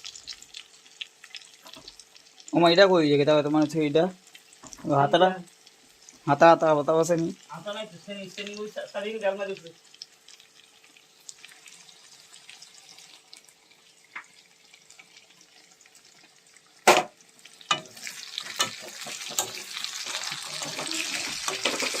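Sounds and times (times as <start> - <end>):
chicken sizzling in oil: 0.0 - 22.0
oil crackling: 0.0 - 22.0.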